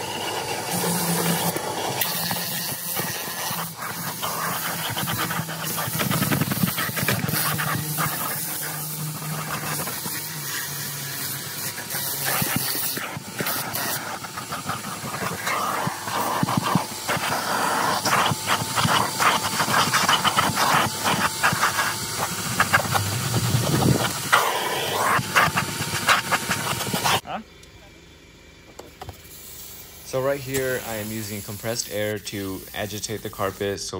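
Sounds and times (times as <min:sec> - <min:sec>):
nozzle scraping over carpet: 0:00.0 - 0:27.2
vacuum cleaner running: 0:00.0 - 0:27.3.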